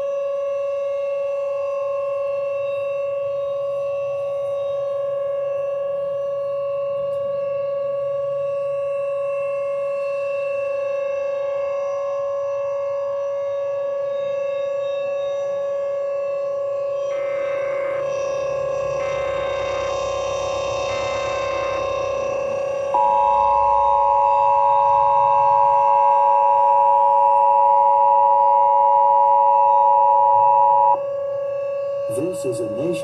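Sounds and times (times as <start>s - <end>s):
steady siren tone: 0.0s - 33.0s.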